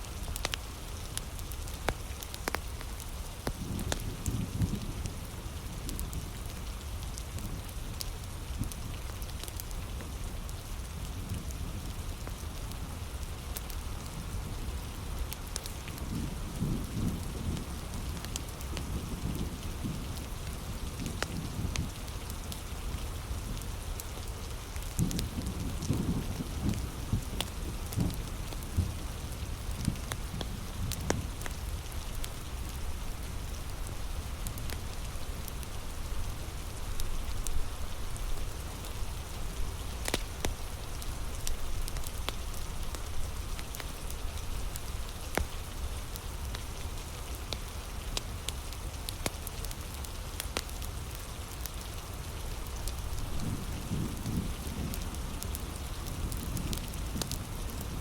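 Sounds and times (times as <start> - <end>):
fire crackling: 0.0 - 58.0
heavy rain falling: 0.0 - 58.0.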